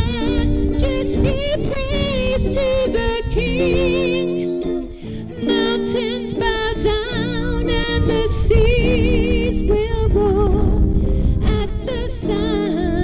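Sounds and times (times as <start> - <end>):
wind rumble on microphone: 0.0 - 4.4, 5.9 - 13.0
woman singing with vibrato: 0.0 - 13.0.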